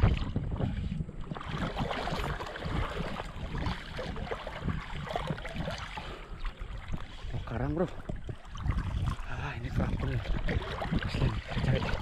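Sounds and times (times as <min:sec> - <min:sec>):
shallow water sloshing and splashing: 0:00.0 - 0:12.0.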